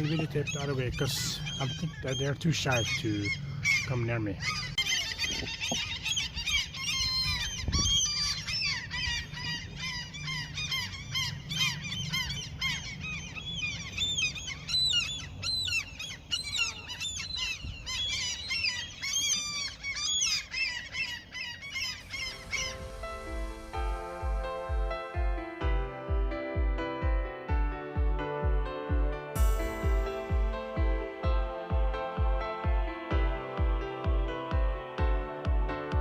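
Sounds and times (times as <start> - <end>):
seagulls calling: 0.0 - 36.0.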